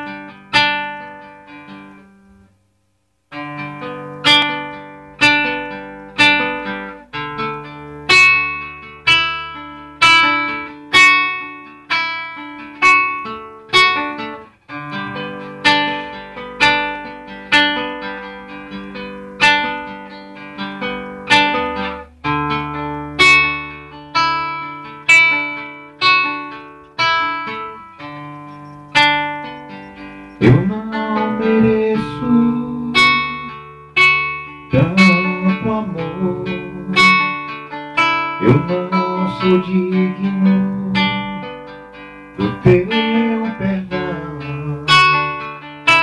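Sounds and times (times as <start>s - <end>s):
classical guitar strumming chords: 0.0s - 46.0s
low sustained keyboard notes: 3.3s - 45.7s.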